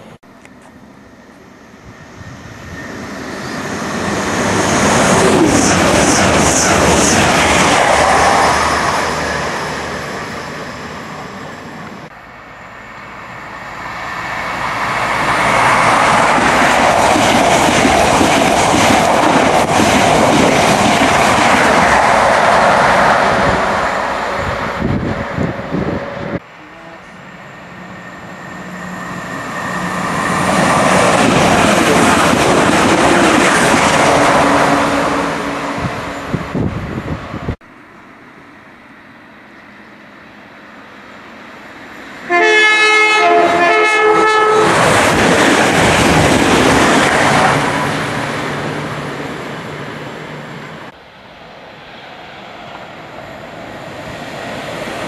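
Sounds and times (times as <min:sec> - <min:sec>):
diesel train passing: 0:00.0 - 0:55.0
electric train rushing past: 0:00.0 - 0:55.0
train passing: 0:00.0 - 0:55.0.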